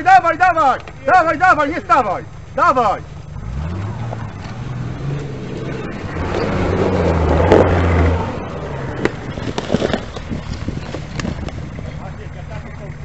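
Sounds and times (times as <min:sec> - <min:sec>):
off-road vehicle engine pulling hard: 0:00.0 - 0:13.0.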